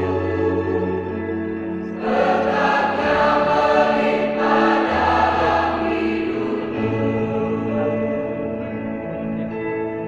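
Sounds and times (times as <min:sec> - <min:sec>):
mixed choir singing: 0:00.0 - 0:08.6.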